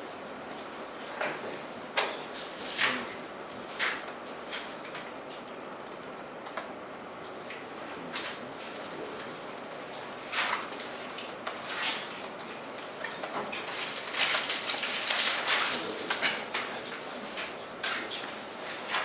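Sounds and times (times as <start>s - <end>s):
rustles and clicks at desks: 0.0s - 19.0s.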